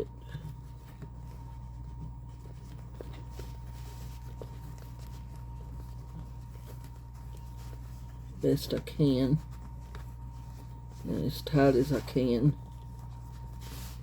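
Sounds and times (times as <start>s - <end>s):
low electrical hum: 0.0s - 14.0s
fabric rustling: 0.2s - 14.0s.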